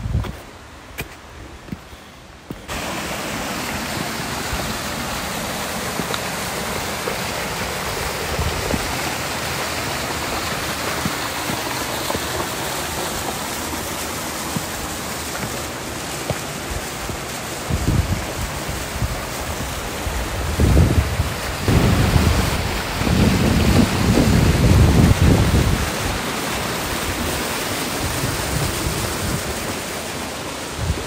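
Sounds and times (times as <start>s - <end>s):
stream rushing over boulders: 0.0s - 31.0s.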